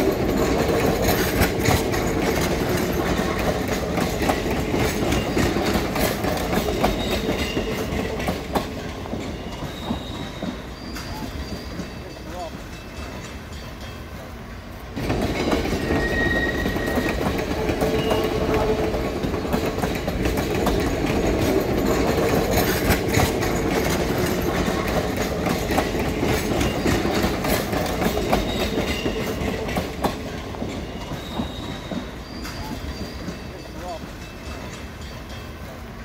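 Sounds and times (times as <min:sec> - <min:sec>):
train coaches rumbling: 0:00.0 - 0:36.0
train wheels clacking over rail joints: 0:00.0 - 0:36.0.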